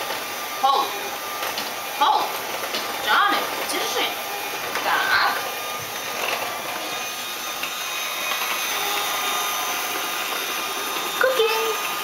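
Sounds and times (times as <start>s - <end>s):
electric hand mixer whirring: 0.0s - 12.0s.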